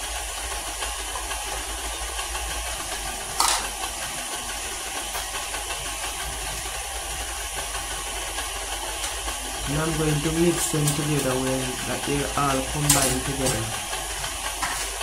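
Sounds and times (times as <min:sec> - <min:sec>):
stand mixer motor running: 0:00.0 - 0:15.0.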